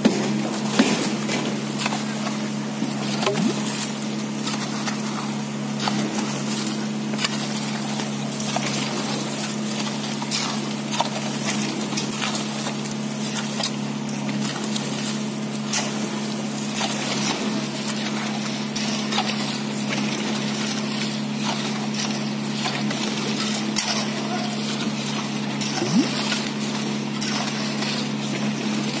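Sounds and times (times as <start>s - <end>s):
concrete pump humming: 0.0s - 29.0s
hoes scraping wet concrete: 0.0s - 29.0s.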